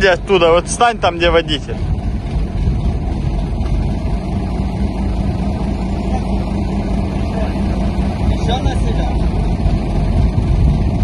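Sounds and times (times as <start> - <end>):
steady low hum: 0.0 - 11.0
truck engine running: 0.0 - 11.0.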